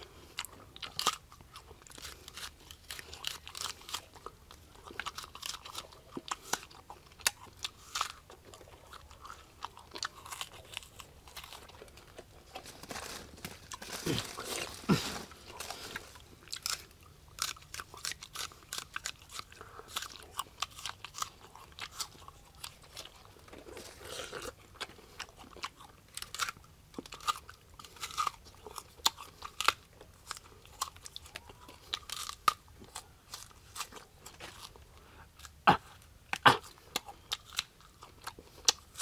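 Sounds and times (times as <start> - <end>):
person crunching fruit: 0.0 - 39.0.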